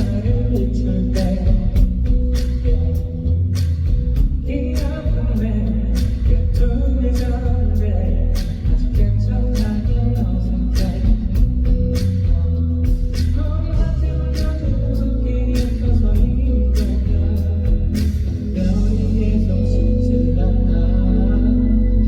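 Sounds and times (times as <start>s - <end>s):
live pop-rock ballad: 0.0s - 22.0s
male lead vocal: 0.0s - 22.0s.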